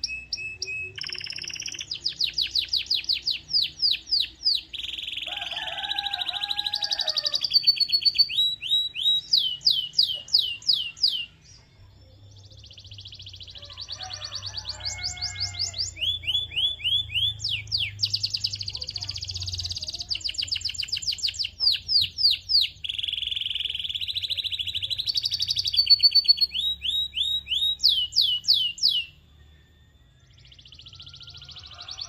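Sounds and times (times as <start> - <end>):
canary singing: 0.0 - 32.0.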